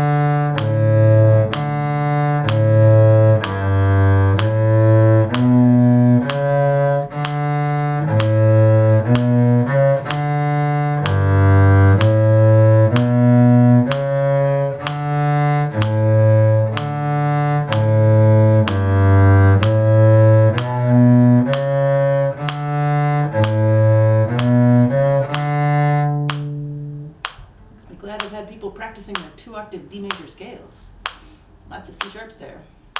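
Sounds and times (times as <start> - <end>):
cello bowing low notes: 0.0 - 28.3.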